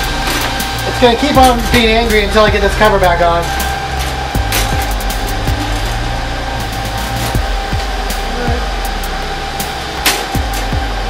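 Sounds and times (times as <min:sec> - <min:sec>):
server cooling fans whirring: 0:00.0 - 0:11.0.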